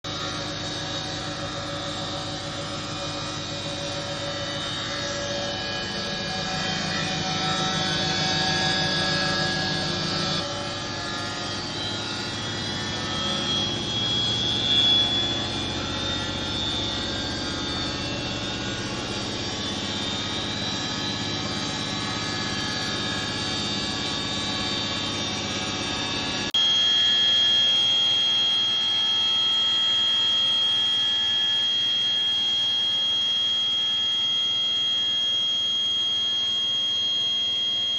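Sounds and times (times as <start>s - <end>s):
washing machine motor whining: 0.0s - 37.9s.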